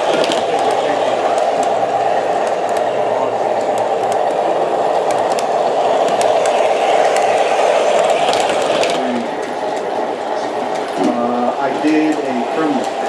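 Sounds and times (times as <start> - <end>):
diesel locomotive engine sound: 0.0 - 13.0
wheels clicking on rails: 0.0 - 13.0.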